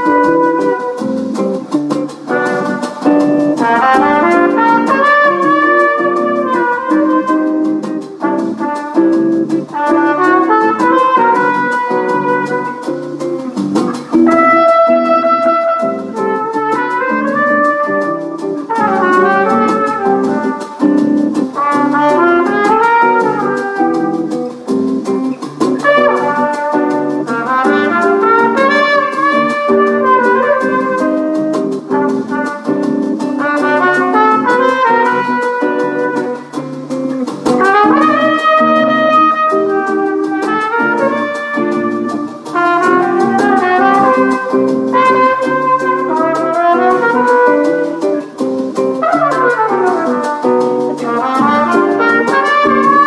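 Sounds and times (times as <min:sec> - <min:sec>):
bossa nova guitar accompaniment: 0:00.0 - 0:53.0
trumpet playing jazz melody: 0:00.0 - 0:53.0.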